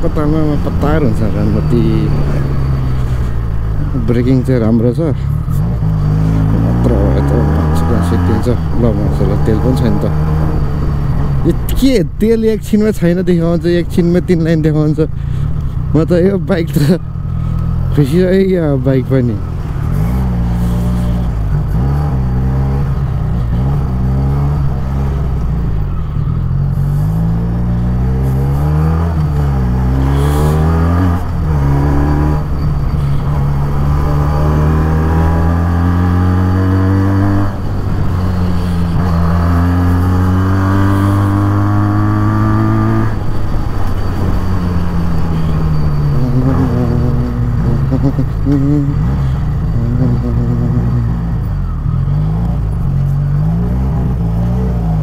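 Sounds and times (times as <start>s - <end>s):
motorcycle engine accelerating: 0.0s - 12.0s, 13.3s - 55.0s.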